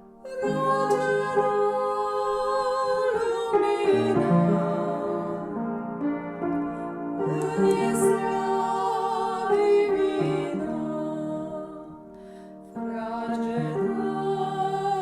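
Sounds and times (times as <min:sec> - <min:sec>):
keyboard accompaniment: 0:00.0 - 0:15.0
voices singing carol: 0:00.2 - 0:06.0, 0:07.1 - 0:12.1, 0:12.8 - 0:15.0.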